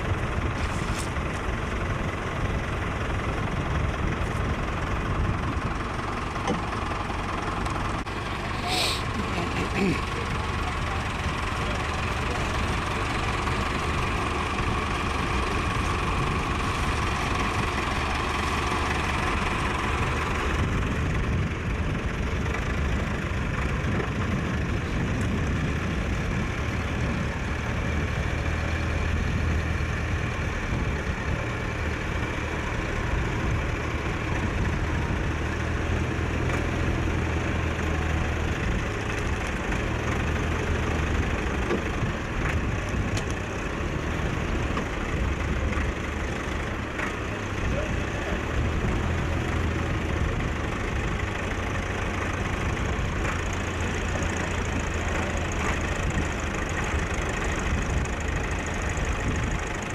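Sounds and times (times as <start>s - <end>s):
tractor engine humming: 0.0s - 59.9s.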